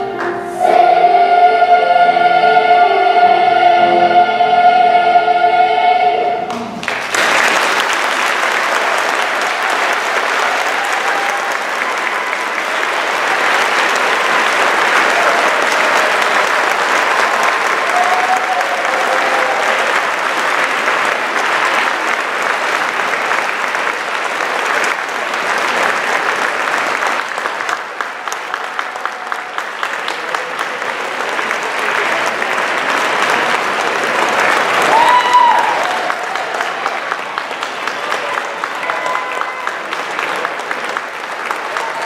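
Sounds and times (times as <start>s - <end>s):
large audience applauding: 6.5s - 42.0s.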